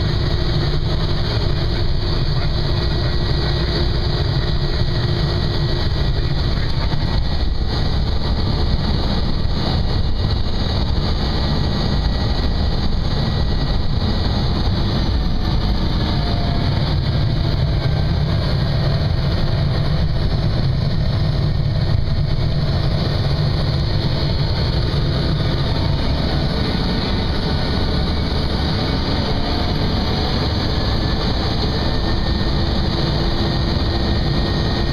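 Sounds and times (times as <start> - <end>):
propeller airplane engine drone: 0.0 - 34.9.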